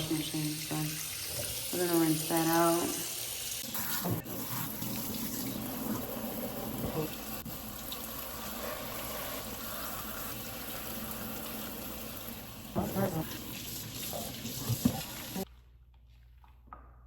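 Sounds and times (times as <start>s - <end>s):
tap water running into sink: 0.0s - 15.4s
mop head rinsed under water: 0.0s - 15.5s.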